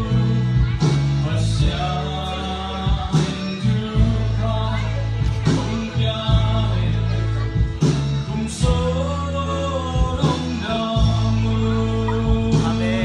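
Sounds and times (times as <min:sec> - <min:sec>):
gospel band playing: 0:00.0 - 0:13.0
man singing: 0:00.0 - 0:13.0.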